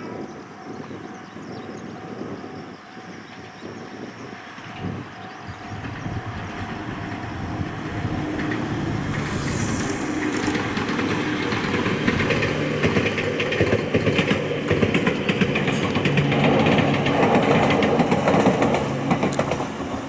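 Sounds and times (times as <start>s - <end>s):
electric train approaching: 0.1s - 20.0s.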